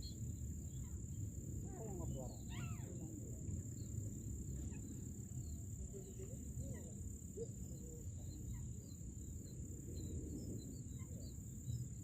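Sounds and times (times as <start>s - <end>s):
insect chorus drone: 0.0s - 12.0s
low wind-like rumble: 0.0s - 12.0s.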